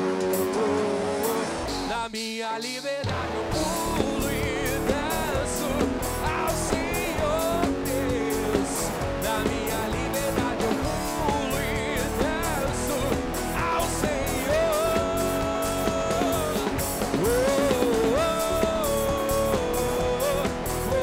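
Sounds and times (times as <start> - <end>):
guitar chords: 0.0 - 2.0, 3.0 - 21.0
drums beating: 0.0 - 21.0
live rock band playing: 0.0 - 21.0.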